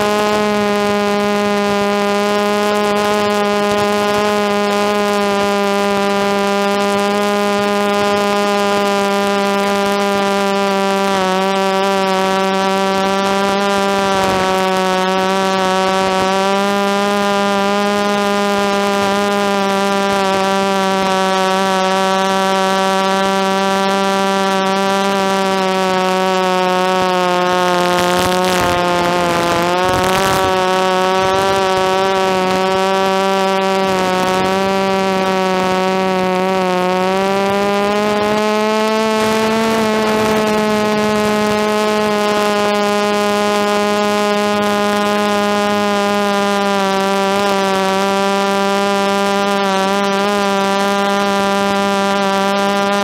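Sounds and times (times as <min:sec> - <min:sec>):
rush of noise: 0:00.0 - 0:51.8
quadcopter motors buzzing: 0:00.0 - 0:53.0.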